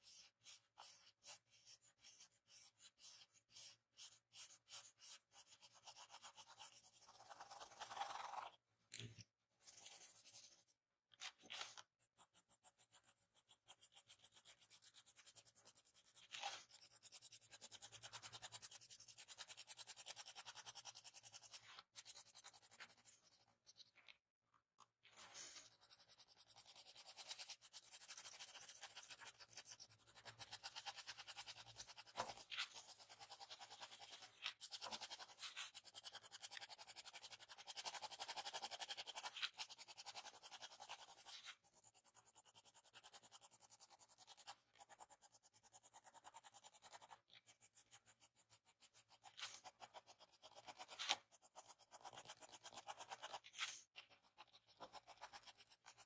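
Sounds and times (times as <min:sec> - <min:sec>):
pencil scratching on paper: 0:00.0 - 0:08.6, 0:09.6 - 0:24.1, 0:25.1 - 0:56.0.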